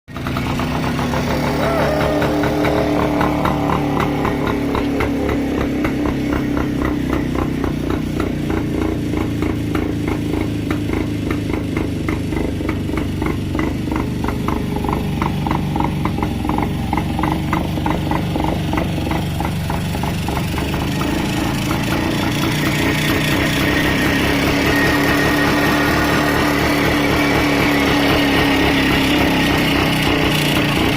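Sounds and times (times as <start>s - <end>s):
two-stroke motorcycle engine idling: 0.1s - 30.9s.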